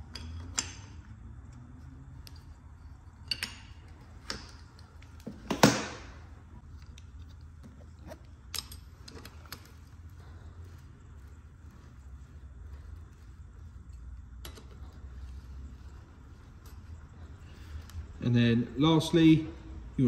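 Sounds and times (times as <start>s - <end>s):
clinks of hand tools and parts: 0.0s - 5.9s, 6.6s - 12.0s, 12.7s - 18.2s
low steady hum: 0.0s - 20.0s.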